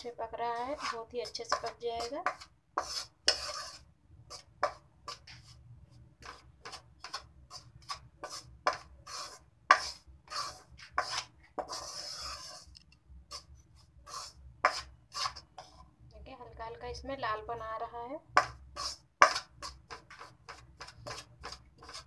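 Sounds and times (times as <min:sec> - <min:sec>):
metal spoon scraping a pan: 0:00.0 - 0:05.6, 0:06.2 - 0:15.9, 0:18.4 - 0:22.0.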